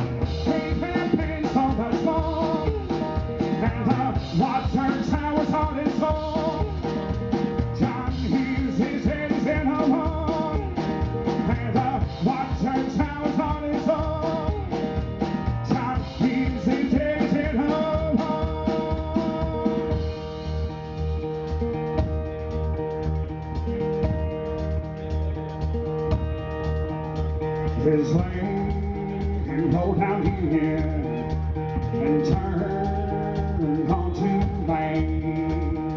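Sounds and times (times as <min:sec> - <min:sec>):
drum kit beat: 0:00.0 - 0:35.9
washboard beat: 0:00.0 - 0:35.9.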